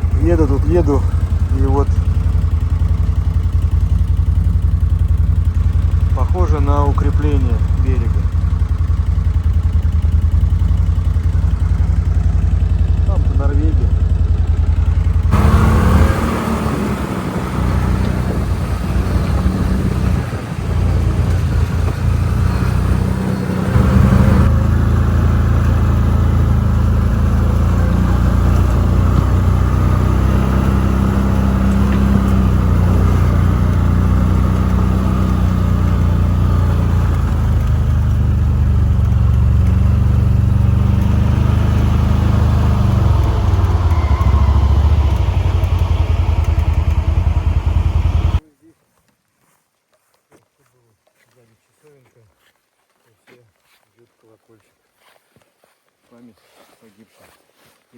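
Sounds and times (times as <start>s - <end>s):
quad bike engine running: 0.0s - 48.4s.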